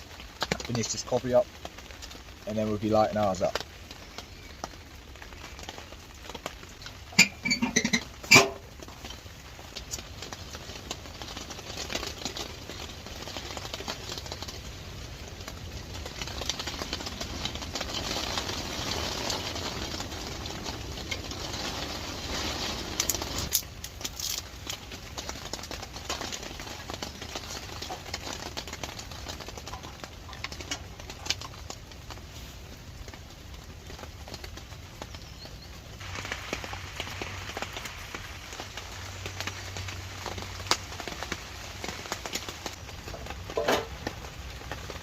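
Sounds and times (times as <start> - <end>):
steady rain: 0.0 - 45.0
wind: 0.0 - 45.0.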